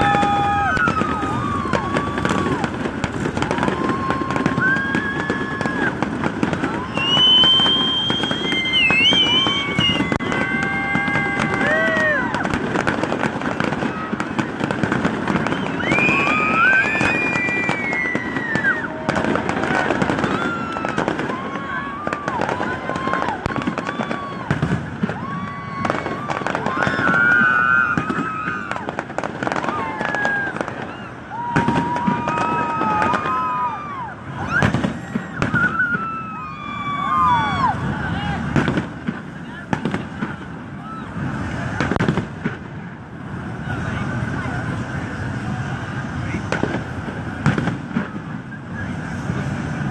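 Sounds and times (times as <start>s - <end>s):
firework high whistle: 0.0s - 49.9s
fireworks crackling and banging: 0.0s - 49.9s.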